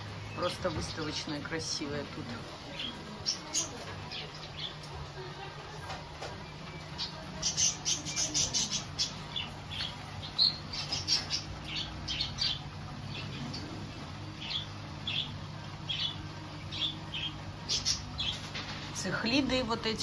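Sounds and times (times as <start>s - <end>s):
birds chirping and squawking: 0.0s - 5.1s, 6.2s - 19.7s
steady low hum: 0.0s - 20.0s.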